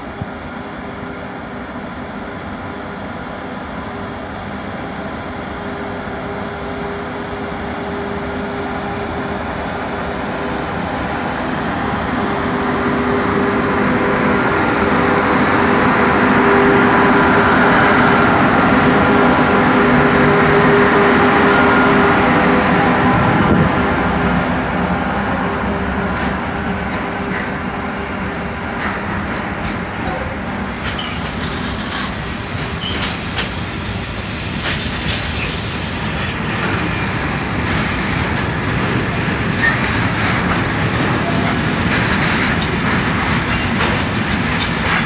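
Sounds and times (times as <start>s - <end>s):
electric locomotive passing: 0.0s - 45.0s.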